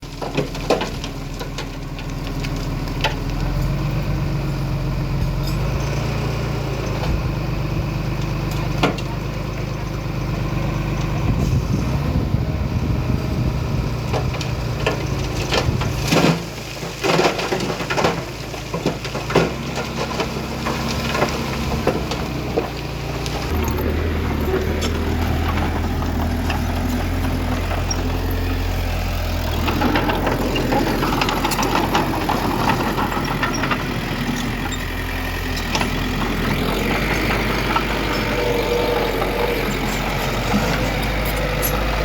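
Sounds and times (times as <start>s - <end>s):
heavy earthmoving machinery running: 0.0s - 42.0s.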